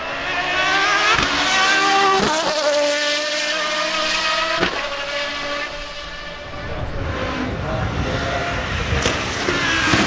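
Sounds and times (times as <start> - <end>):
race car engine accelerating past: 0.0 - 10.0.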